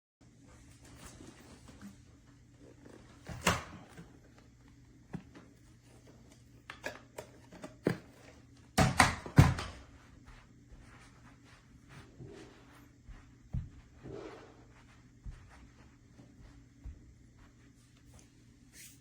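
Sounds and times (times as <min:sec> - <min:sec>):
faint steady hum: 0:00.2 - 0:19.0.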